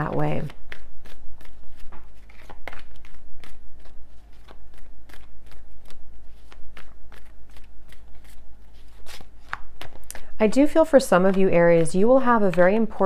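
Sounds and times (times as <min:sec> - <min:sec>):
playing cards being shuffled: 0:00.0 - 0:13.0.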